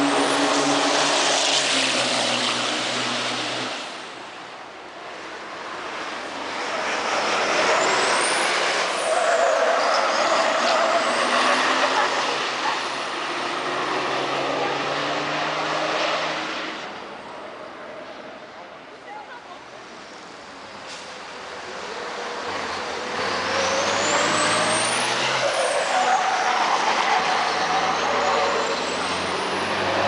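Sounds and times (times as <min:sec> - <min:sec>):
truck engines passing at speed: 0:00.0 - 0:30.0.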